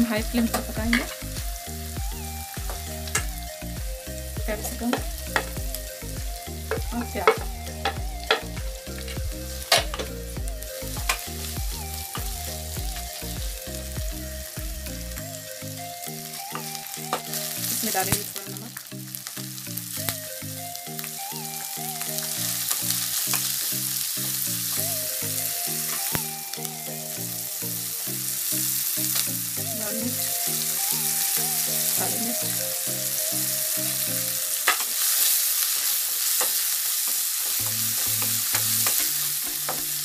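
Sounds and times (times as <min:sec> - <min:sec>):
vegetables sizzling in hot oil: 0:00.0 - 0:40.0.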